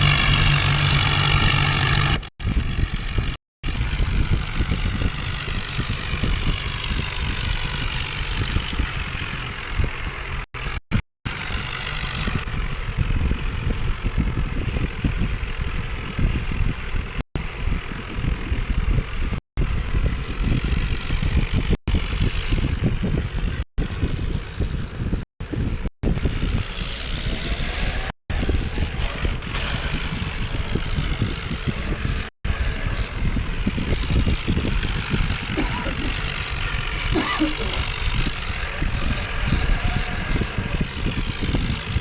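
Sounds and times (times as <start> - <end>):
vehicle engine rough rumble: 0.0 - 42.0.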